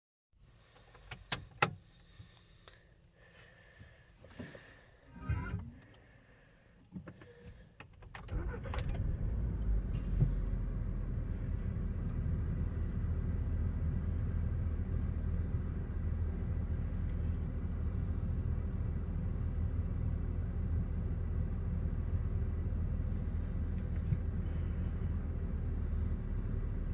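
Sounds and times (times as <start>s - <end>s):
car engine cranking and idling: 0.6s - 26.9s.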